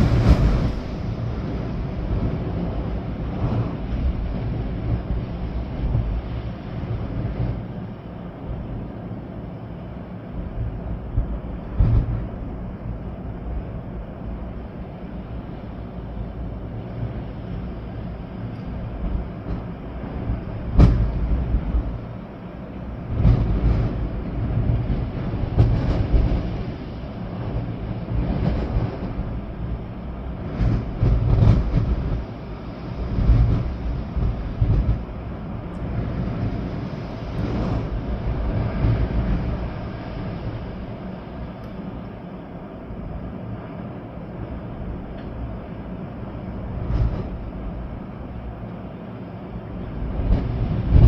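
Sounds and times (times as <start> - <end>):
rain: 0.0 - 51.0
storm wind gusting: 0.0 - 51.0
trees swaying: 0.0 - 51.0.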